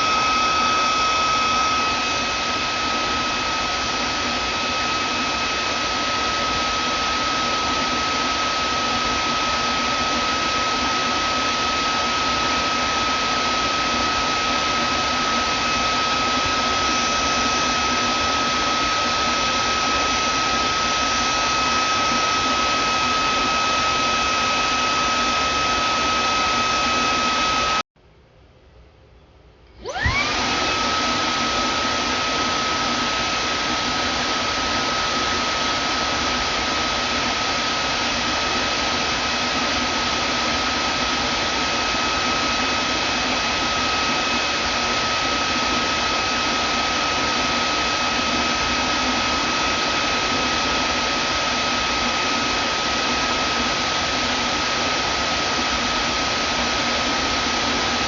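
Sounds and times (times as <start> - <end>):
vacuum cleaner motor whining: 0.0 - 27.8, 29.7 - 58.0.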